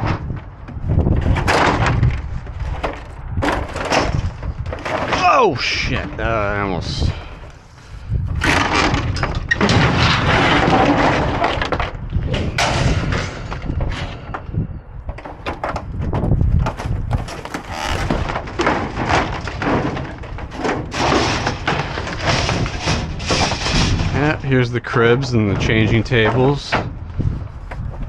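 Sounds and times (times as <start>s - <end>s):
plastic panels clattering and cracking: 0.0s - 7.6s, 8.3s - 28.0s
rattling crash: 0.0s - 26.9s.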